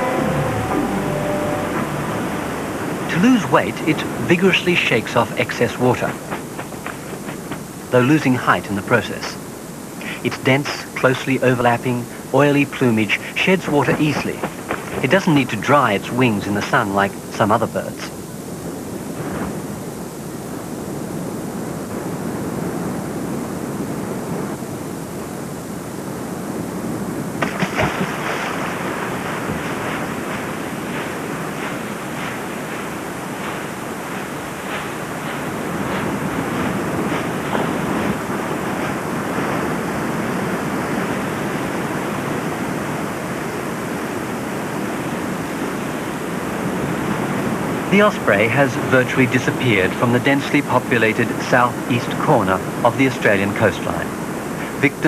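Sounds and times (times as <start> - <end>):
surf rushing: 0.0 - 55.0
wind: 0.0 - 55.0.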